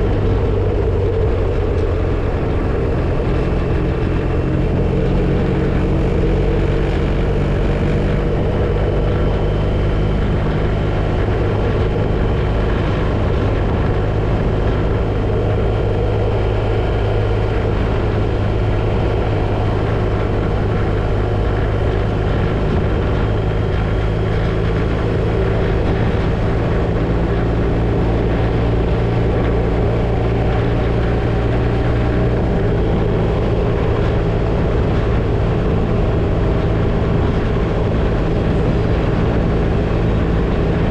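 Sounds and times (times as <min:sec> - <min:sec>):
motorcycle engine cruising: 0:00.0 - 0:40.9
road noise: 0:00.0 - 0:40.9
wind noise: 0:00.0 - 0:40.9.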